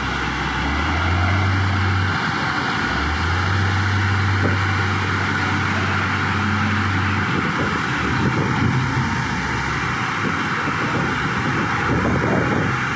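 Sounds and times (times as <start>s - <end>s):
diesel truck engine pulling away: 0.0s - 12.9s.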